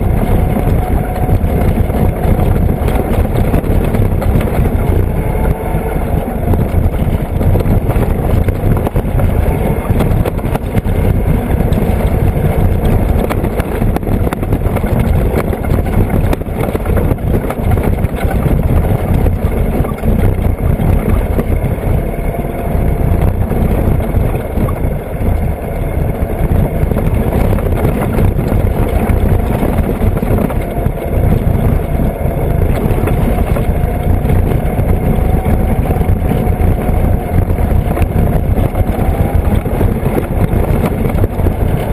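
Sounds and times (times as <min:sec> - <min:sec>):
vehicle engine and road rumble: 0:00.0 - 0:41.9.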